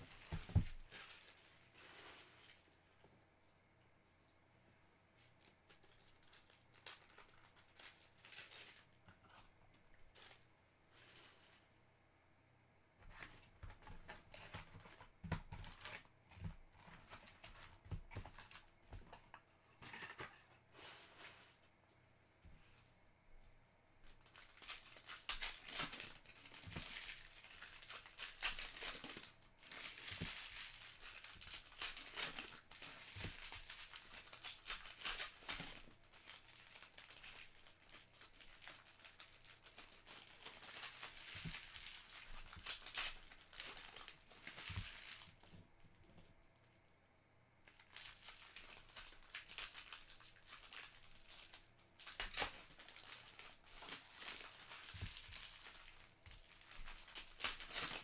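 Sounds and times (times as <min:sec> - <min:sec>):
foil wrappers crinkling and tearing: 0:00.0 - 0:02.8, 0:05.3 - 0:09.4, 0:10.0 - 0:11.6, 0:13.1 - 0:19.2, 0:24.1 - 0:45.6, 0:47.7 - 0:58.0.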